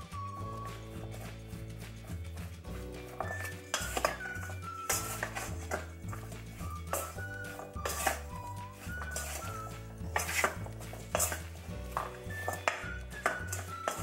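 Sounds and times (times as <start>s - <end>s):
background music with bass line: 0.0s - 14.0s
spatula scraping a metal bowl: 0.4s - 14.0s.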